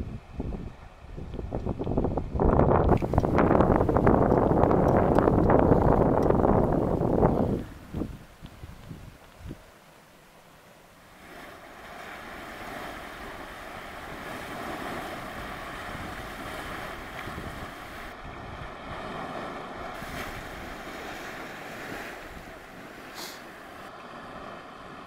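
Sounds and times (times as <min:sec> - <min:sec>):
wind buffeting microphone: 0:00.0 - 0:09.7, 0:11.3 - 0:25.0
hot spring water boiling: 0:01.2 - 0:25.0.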